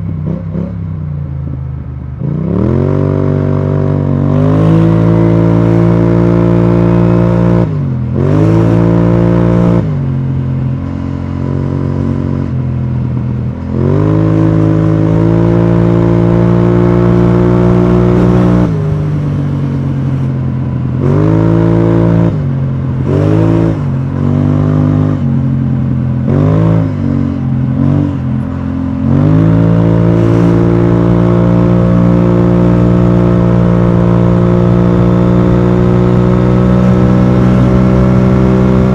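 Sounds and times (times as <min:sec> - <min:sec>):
scooter engine exhaust note: 0:00.0 - 0:38.9.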